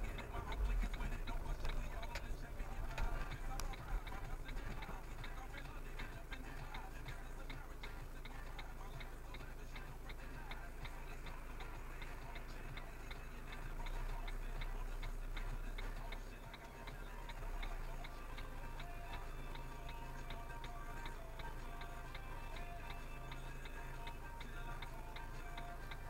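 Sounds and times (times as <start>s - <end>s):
low hum inside car: 0.0s - 26.0s.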